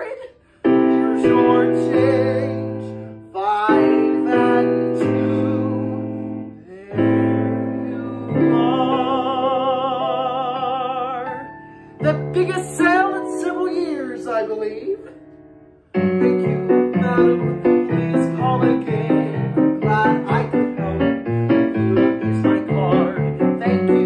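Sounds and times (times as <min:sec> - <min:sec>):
piano accompaniment: 0:00.0 - 0:24.0
man singing: 0:00.8 - 0:15.2, 0:16.0 - 0:24.0.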